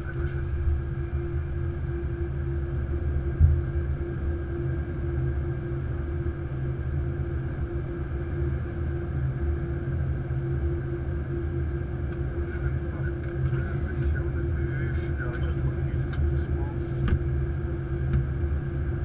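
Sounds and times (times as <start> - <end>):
flight deck hum and rumble: 0.0 - 19.0.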